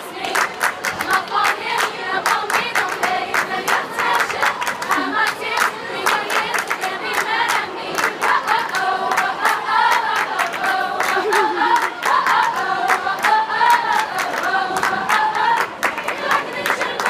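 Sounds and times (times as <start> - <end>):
students singing in chorus: 0.0 - 17.0.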